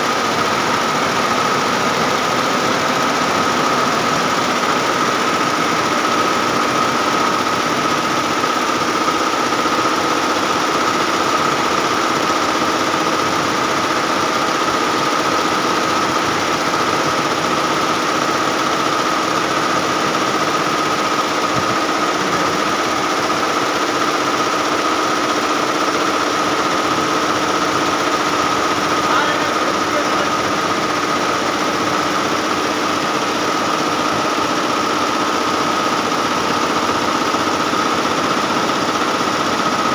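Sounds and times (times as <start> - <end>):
embroidery machines stitching: 0.0 - 39.9.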